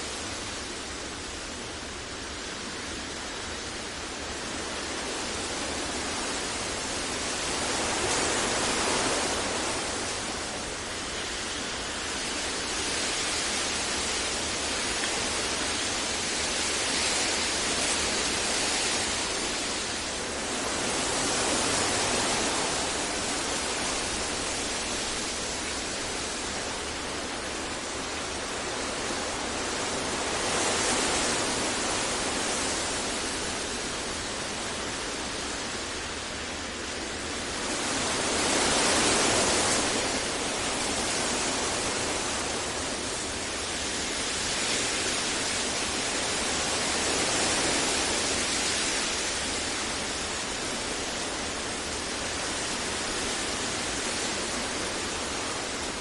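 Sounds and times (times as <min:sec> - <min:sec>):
steady featureless hiss: 0:00.0 - 0:56.0.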